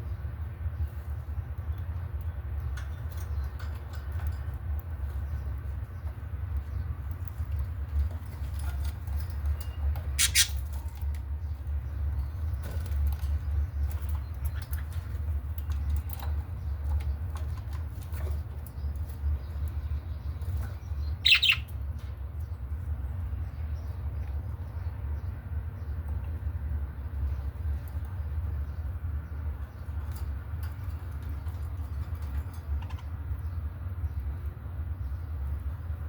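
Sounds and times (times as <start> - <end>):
faint bird chirps and clicks: 0.1 - 26.4, 27.2 - 35.3.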